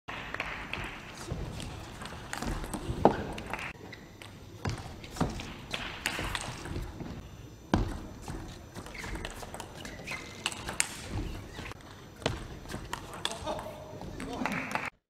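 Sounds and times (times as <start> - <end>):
shoes squeaking on floor: 1.2 - 14.4.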